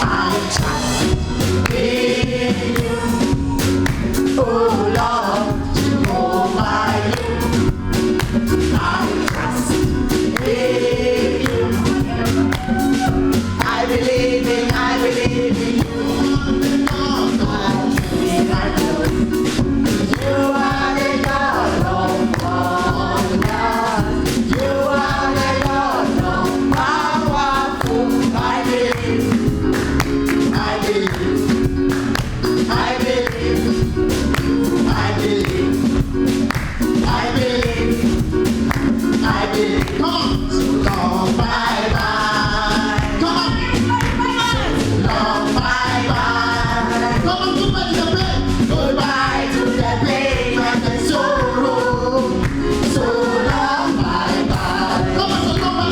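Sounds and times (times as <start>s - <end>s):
band accompaniment: 0.0s - 55.9s
gospel choir singing: 0.0s - 55.9s
steady drum beat: 0.0s - 55.9s.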